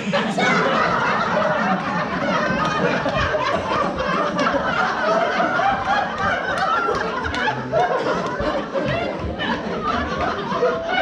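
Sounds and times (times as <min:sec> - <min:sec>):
audience laughing: 0:00.0 - 0:11.0.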